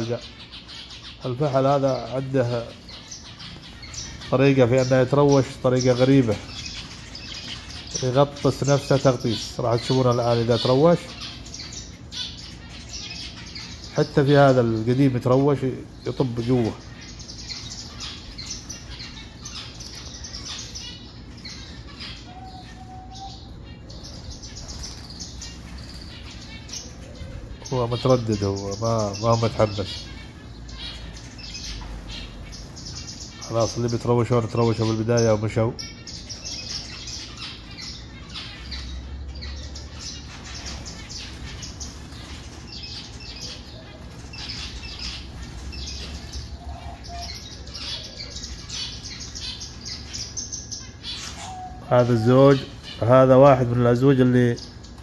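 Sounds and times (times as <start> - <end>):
cage birds chirping: 0.0 - 55.0.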